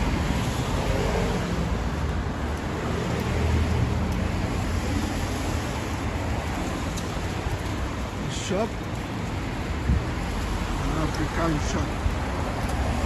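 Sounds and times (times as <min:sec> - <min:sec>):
vehicles passing on wet street: 0:00.0 - 0:13.0.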